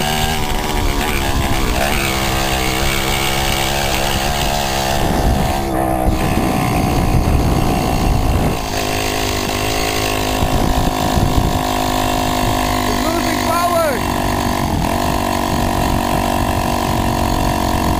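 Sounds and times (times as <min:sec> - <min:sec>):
moped engine revving: 0:00.0 - 0:17.9.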